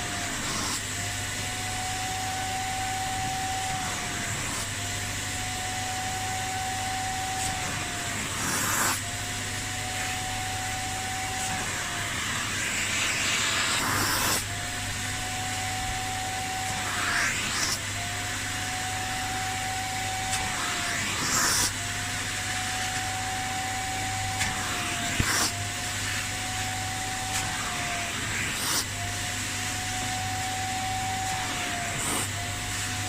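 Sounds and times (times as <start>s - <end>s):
vacuum motor whine: 0.0s - 33.0s
spray and suction hissing: 0.1s - 1.0s, 1.7s - 4.8s, 5.8s - 29.4s, 30.0s - 33.0s.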